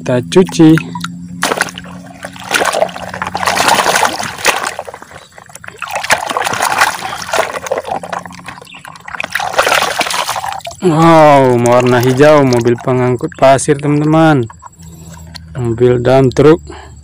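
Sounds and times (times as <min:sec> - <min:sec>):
water splashing and sloshing: 0:00.3 - 0:15.6.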